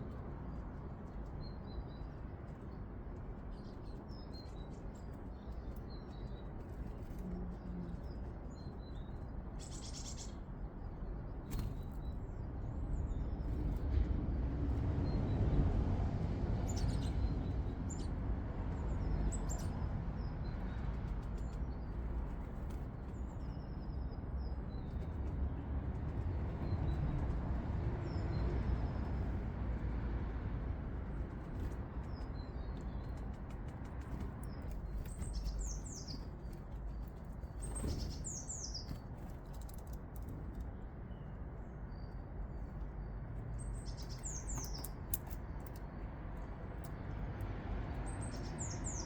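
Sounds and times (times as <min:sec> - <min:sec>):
low outdoor rumble: 0:00.0 - 0:49.0
songbirds chirping: 0:00.0 - 0:49.0.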